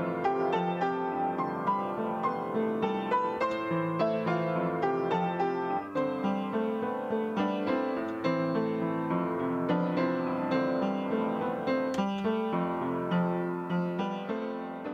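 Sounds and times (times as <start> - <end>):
piano music: 0.0 - 14.9.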